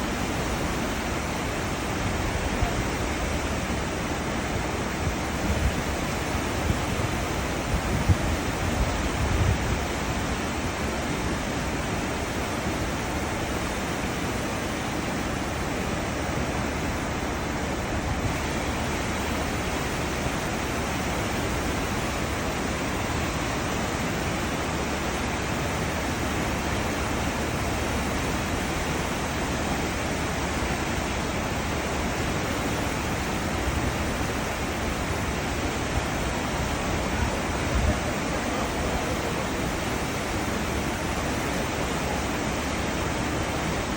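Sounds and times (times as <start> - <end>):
churning sea water rushing: 0.0 - 43.9.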